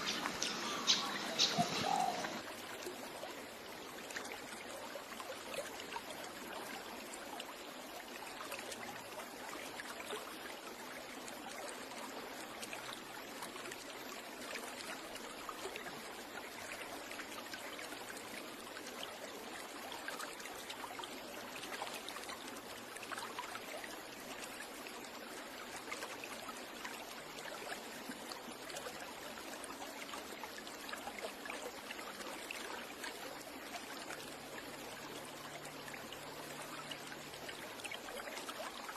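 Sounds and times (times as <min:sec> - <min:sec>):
stream trickling and splashing: 0:00.0 - 0:38.9.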